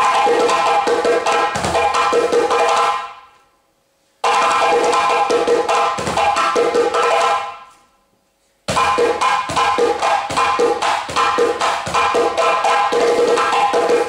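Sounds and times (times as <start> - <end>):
djembe drumming: 0.0 - 3.2, 4.2 - 7.6, 8.7 - 14.0.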